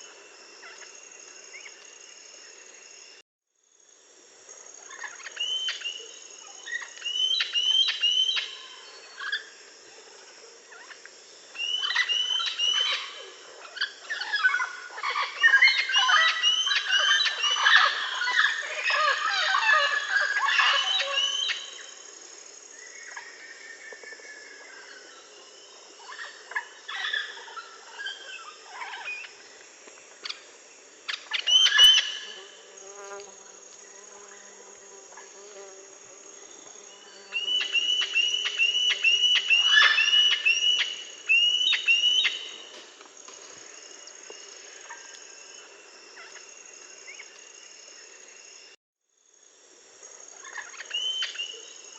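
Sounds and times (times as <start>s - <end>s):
high insect buzz: 0.0s - 51.9s.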